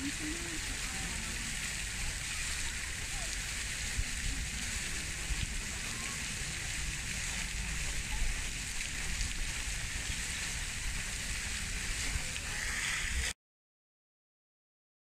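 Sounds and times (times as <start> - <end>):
steady outdoor hiss: 0.0 - 13.3
wind rumble on microphone: 0.0 - 13.3.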